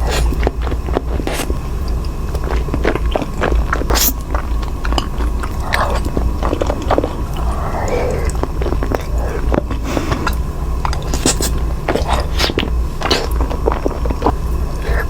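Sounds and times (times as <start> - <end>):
close-miked chewing: 0.0 - 15.0
steady low hum: 0.0 - 15.0.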